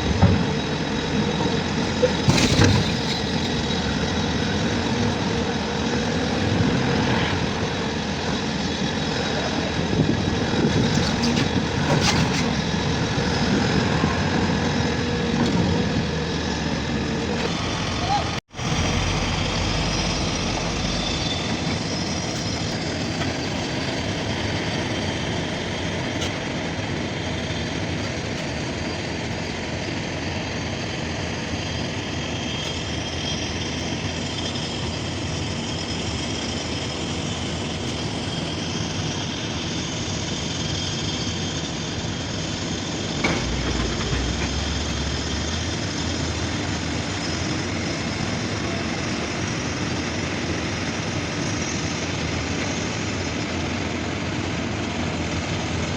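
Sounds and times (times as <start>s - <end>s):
heavy machinery diesel engines: 0.0s - 55.9s.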